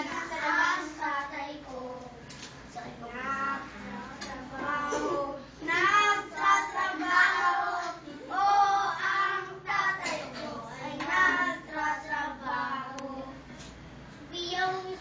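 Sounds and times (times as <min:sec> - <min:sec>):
children singing together: 0:00.0 - 0:13.5.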